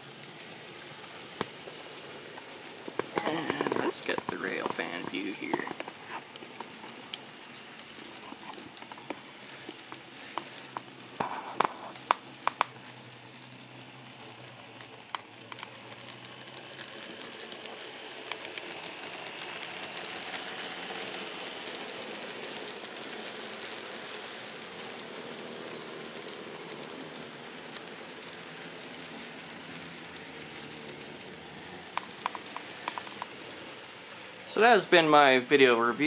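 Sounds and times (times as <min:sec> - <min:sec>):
model train wheels rattling on rail: 0:00.0 - 0:36.0.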